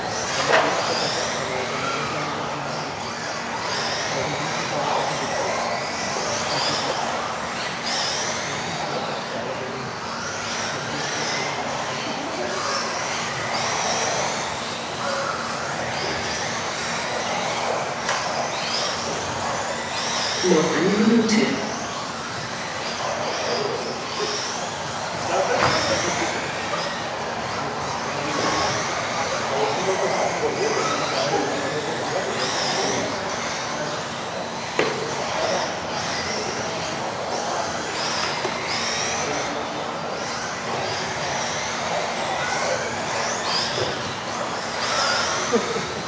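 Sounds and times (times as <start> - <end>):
rc car motors whining: 0.0 - 46.0.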